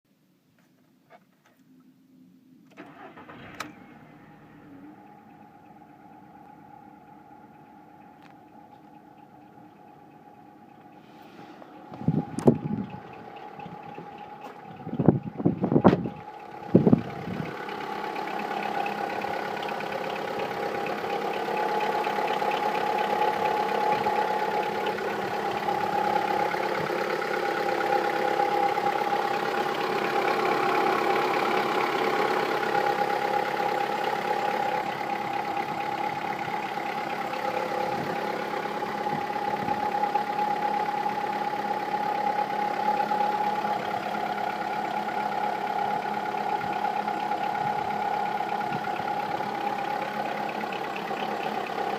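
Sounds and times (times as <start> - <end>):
car engine idling: 1.5 - 51.9
engine clacking rattle: 2.7 - 51.9.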